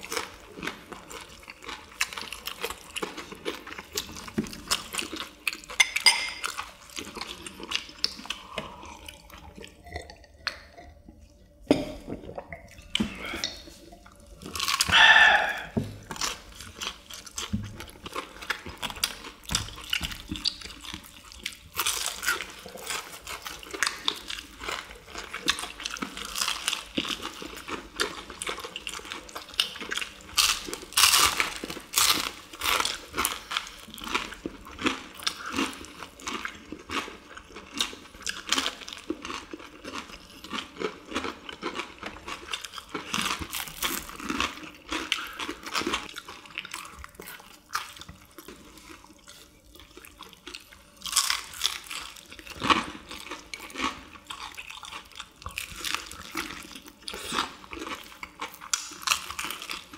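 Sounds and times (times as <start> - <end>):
crunching and wet chewing: 0.0 - 59.9.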